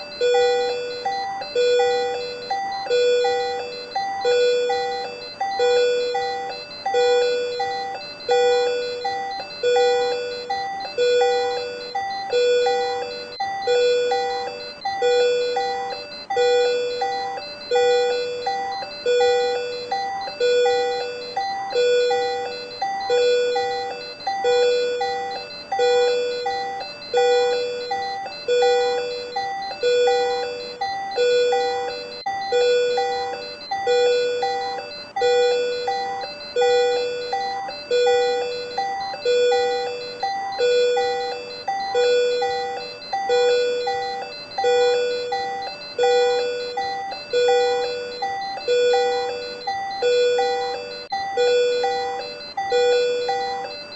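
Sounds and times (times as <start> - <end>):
patient monitor alarm chime: 0.0 - 53.9.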